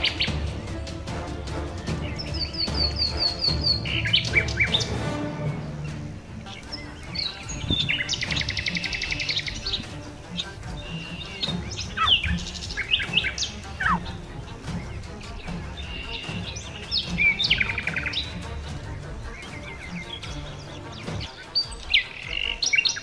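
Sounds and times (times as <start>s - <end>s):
bird rattling trill: 0.0s - 5.1s, 6.4s - 23.0s
birds chirping and calling: 0.0s - 23.0s.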